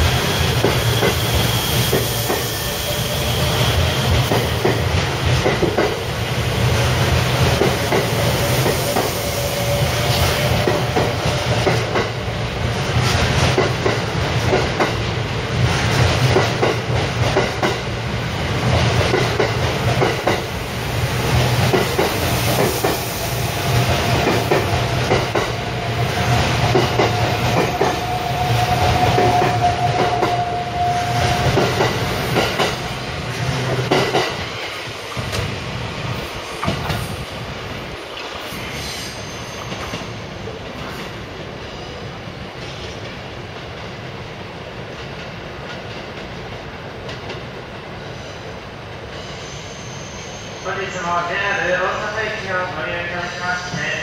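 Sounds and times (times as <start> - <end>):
train wheels clattering on rails: 0.0 - 37.3, 38.0 - 41.8, 44.8 - 48.4.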